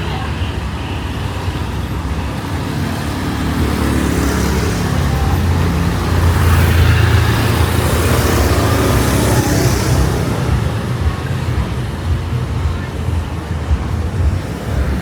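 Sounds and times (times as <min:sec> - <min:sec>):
street noise: 0:00.0 - 0:15.0
vehicle engine passing: 0:00.0 - 0:15.0.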